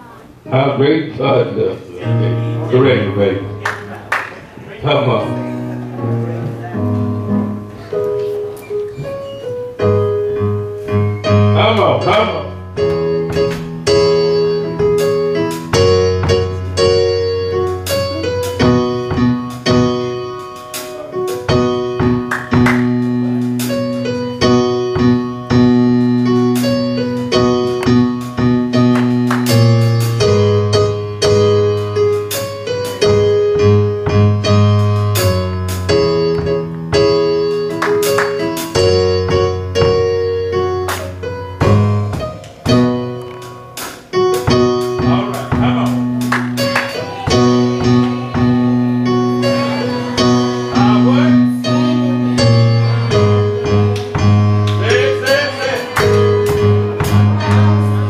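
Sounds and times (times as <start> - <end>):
keyboard playing sustained chords: 0.4 - 4.1, 9.5 - 58.0
bass line: 10.0 - 58.0.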